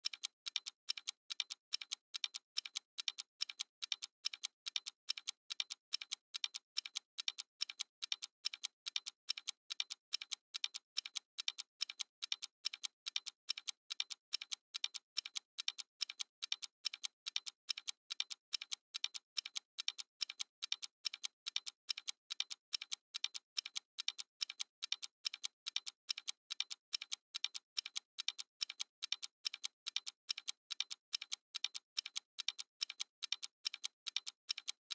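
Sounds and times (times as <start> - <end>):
stopwatch ticking: 0.0 - 34.9.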